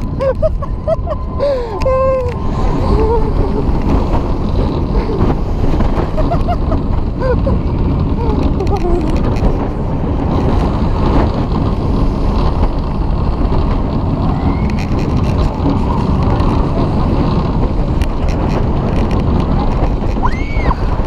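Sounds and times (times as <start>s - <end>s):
roller coaster rumbling on track: 0.0s - 21.0s
wind rushing over microphone: 0.0s - 21.0s.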